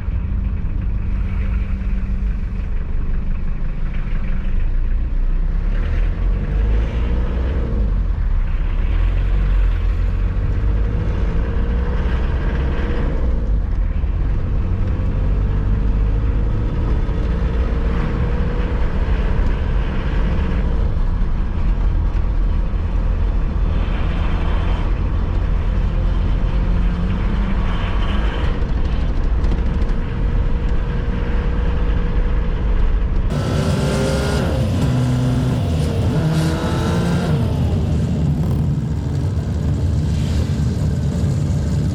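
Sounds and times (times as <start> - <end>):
low road rumble: 0.0 - 41.9
diesel engine revving: 5.5 - 41.9.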